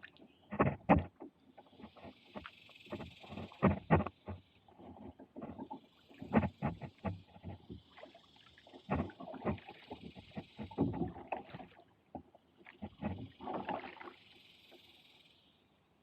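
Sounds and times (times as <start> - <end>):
water splashing: 1.6 - 14.9.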